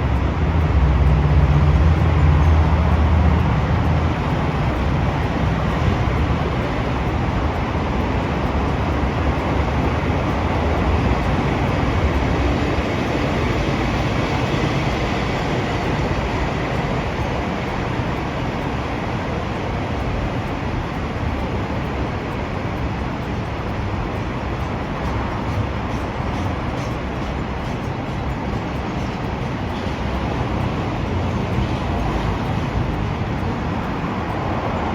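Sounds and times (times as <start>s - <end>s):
train running past on rails: 0.0s - 34.9s.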